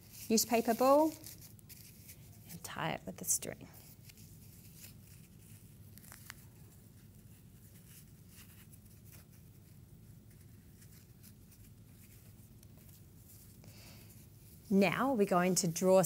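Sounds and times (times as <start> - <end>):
cloth and string rustling: 0.0 - 16.0
low steady background hum: 0.0 - 16.0.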